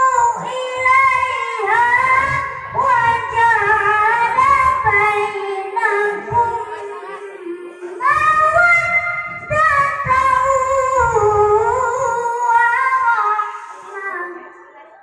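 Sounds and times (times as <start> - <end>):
child chanting over loudspeaker: 0.0 - 15.0.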